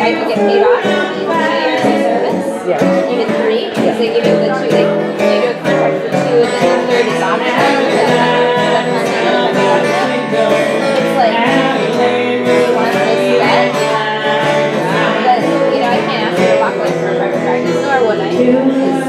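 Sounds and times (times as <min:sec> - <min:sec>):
acoustic guitar: 0:00.0 - 0:19.0
woman singing: 0:00.0 - 0:19.0.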